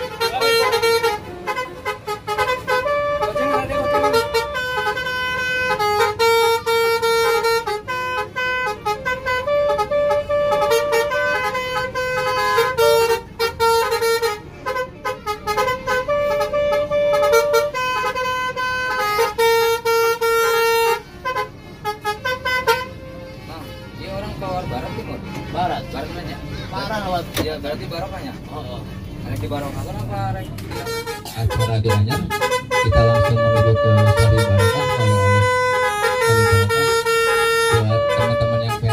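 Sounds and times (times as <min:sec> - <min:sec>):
multi-tone bus horn melody: 0:00.0 - 0:27.8, 0:29.8 - 0:38.9.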